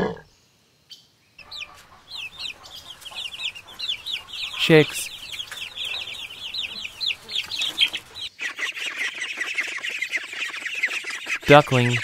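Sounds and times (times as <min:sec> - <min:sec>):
chicks peeping: 0:01.4 - 0:12.0.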